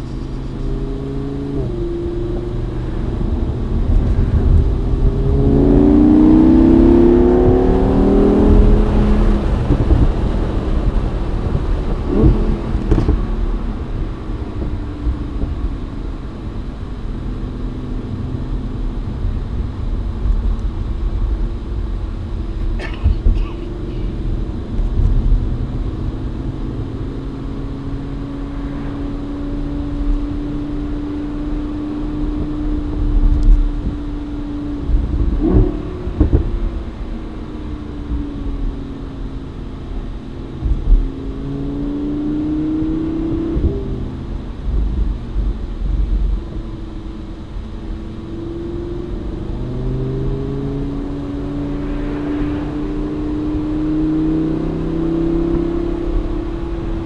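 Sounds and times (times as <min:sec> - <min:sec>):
sports car engine cruising: 0:00.0 - 0:57.0
wind and road noise rumble: 0:00.0 - 0:57.0.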